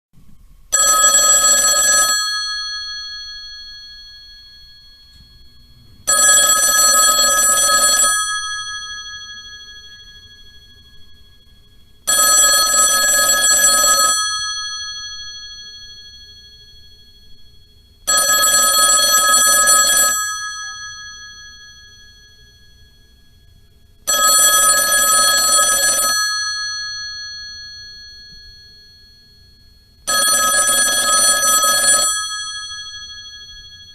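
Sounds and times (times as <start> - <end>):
old telephone bell ringing: 0.7 - 33.9.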